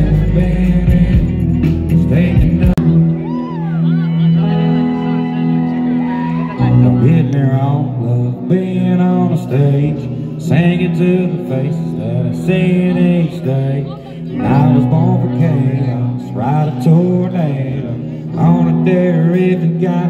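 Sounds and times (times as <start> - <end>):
man singing: 0.0 - 3.4, 6.6 - 20.0
country rock band playing: 0.0 - 20.0.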